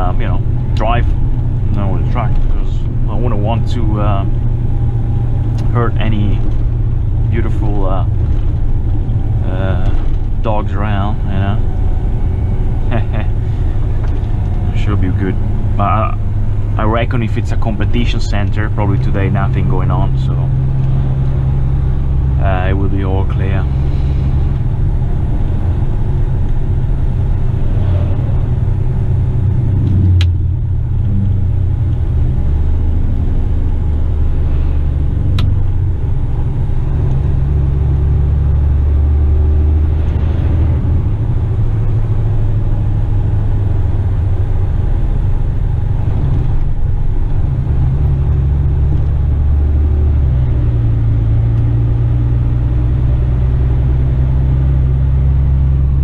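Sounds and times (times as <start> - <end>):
diesel truck engine driving: 0.0 - 56.0.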